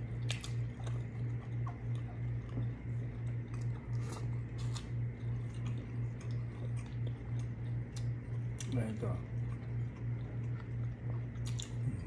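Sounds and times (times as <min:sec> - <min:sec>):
chewing crispy fried food: 0:00.0 - 0:12.0
pulsing low hum: 0:00.0 - 0:12.0.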